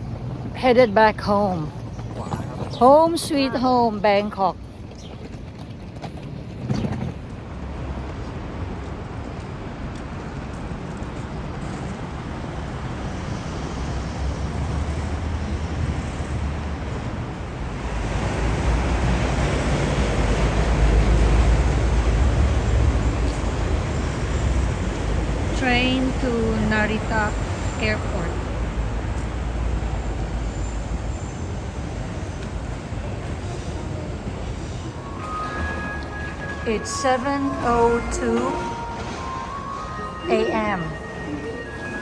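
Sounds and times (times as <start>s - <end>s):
low rumble of vehicles: 0.0s - 42.0s.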